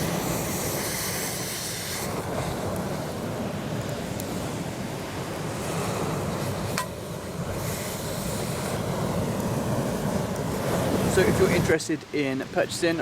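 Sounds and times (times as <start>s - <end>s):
sea waves washing onto beach: 0.0s - 13.0s
wind buffeting microphone: 0.0s - 13.0s.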